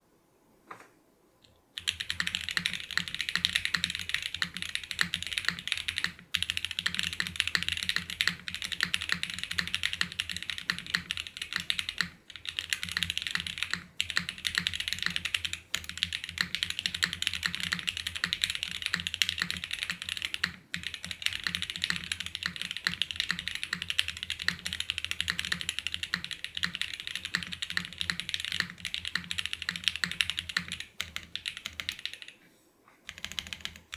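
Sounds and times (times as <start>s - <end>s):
mechanical keyboard typing: 1.5s - 32.4s, 33.1s - 33.9s.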